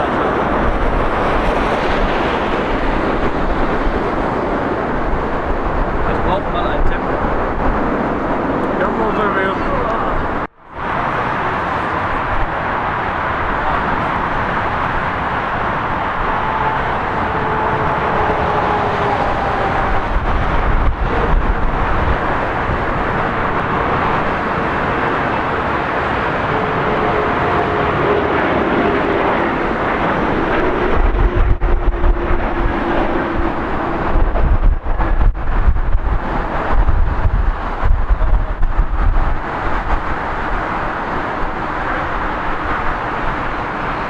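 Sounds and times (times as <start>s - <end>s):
jet engines rushing: 0.0s - 44.0s
wind buffeting microphone: 0.0s - 44.0s.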